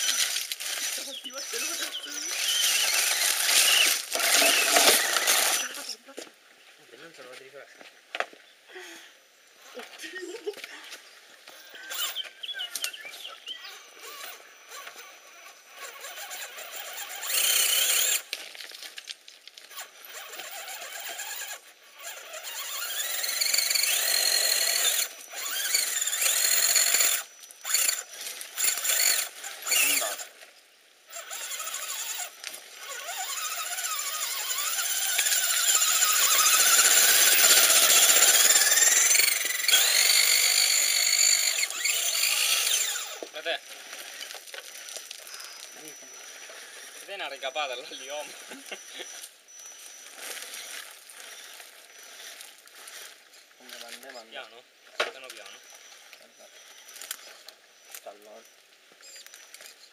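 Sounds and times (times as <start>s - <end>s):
rc car electric motors whining: 0.0s - 6.2s, 10.9s - 54.5s, 55.2s - 59.9s.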